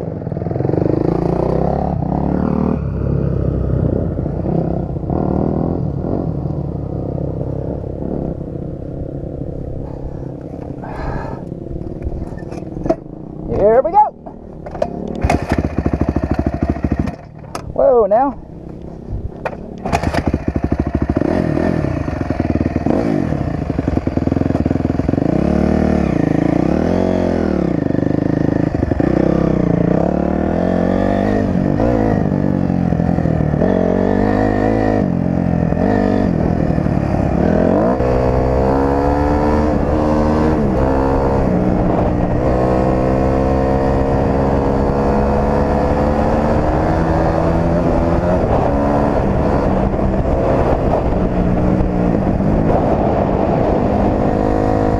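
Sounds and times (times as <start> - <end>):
dirt bike engine revving: 0.4 - 6.4, 14.6 - 17.3, 19.5 - 54.9.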